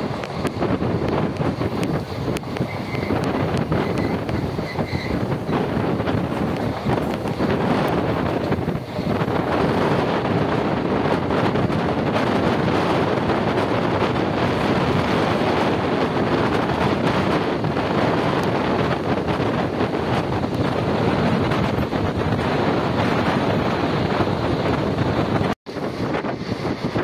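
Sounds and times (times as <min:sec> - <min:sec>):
train running noise: 0:00.0 - 0:27.0
wind buffeting microphone: 0:00.0 - 0:27.0.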